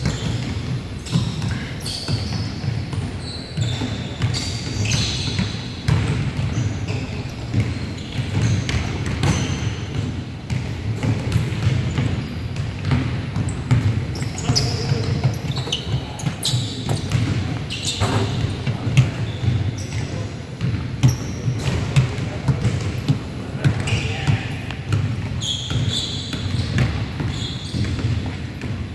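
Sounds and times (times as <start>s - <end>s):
basketballs bouncing on hardwood: 0.0s - 28.9s
sneakers squeaking: 0.0s - 28.9s.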